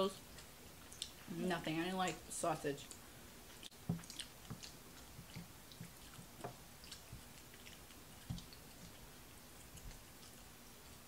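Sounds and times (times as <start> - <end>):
people chewing: 0.1 - 1.4, 2.8 - 11.0.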